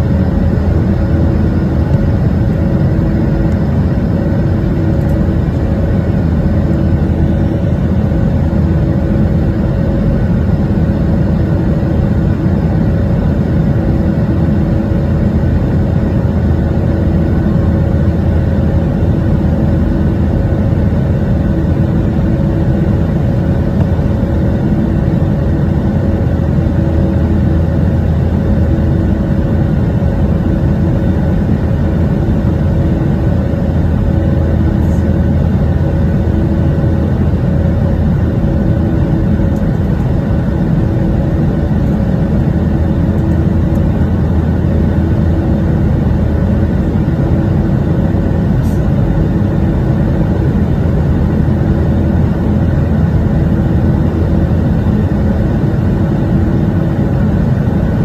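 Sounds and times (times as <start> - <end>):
constant hums: 0.0 - 58.0
jet engines rumbling in cabin: 0.0 - 58.0.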